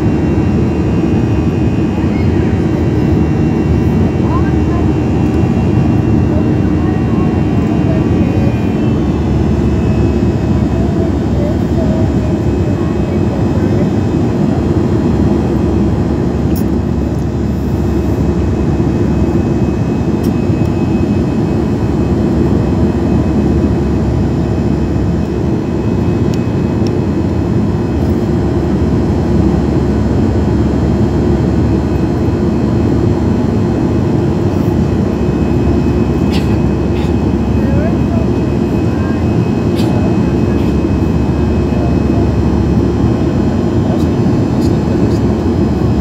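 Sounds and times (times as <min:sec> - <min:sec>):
jet engine and airflow rush: 0:00.0 - 0:46.0.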